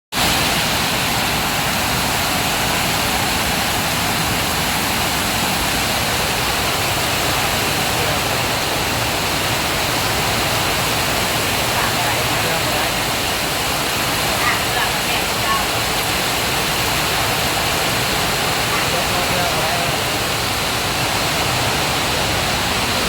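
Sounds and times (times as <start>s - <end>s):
heavy rain: 0.1s - 23.0s.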